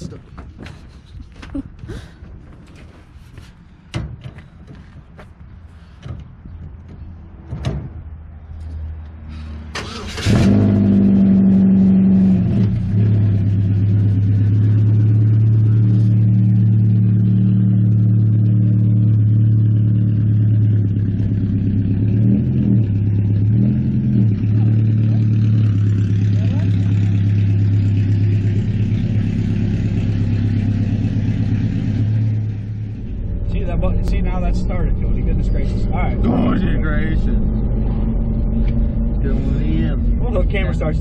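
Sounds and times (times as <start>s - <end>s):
race car engine starting and running: 6.0s - 41.0s.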